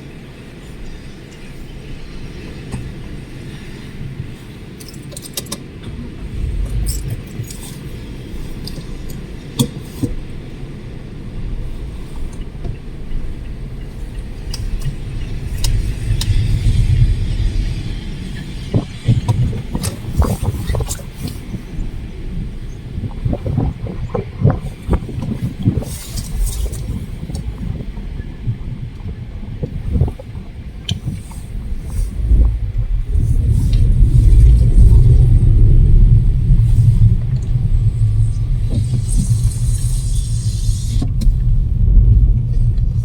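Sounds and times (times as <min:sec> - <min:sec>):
gusty wind buffeting microphone: 0:00.0 - 0:43.0.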